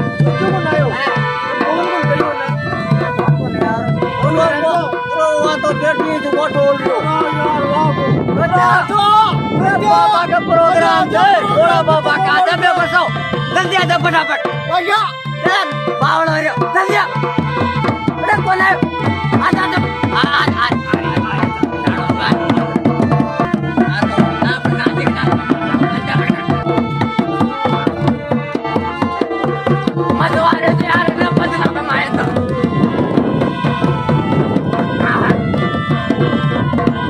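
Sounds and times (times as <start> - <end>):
fast hand-drum beat: 0.0 - 37.0
folk melody: 0.0 - 37.0.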